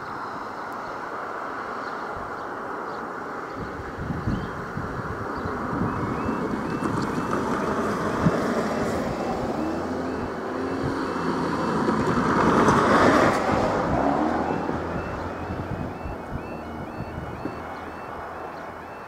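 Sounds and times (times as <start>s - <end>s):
cars driving past: 0.0s - 19.0s
wind noise on microphone: 3.5s - 19.0s.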